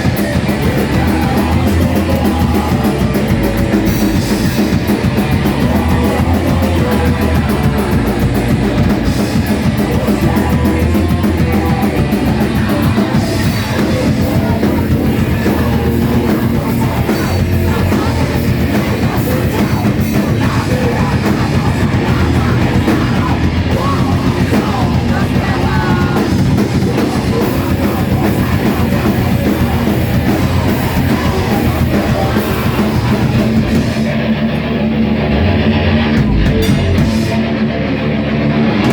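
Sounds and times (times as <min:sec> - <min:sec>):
person singing: 0:00.0 - 0:34.2
heavy distorted rock band: 0:00.0 - 0:38.9.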